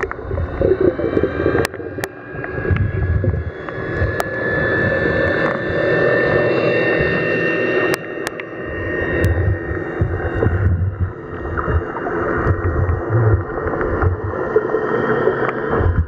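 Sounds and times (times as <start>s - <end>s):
churning water: 0.0s - 16.0s
underwater boat engine whine: 0.0s - 16.0s.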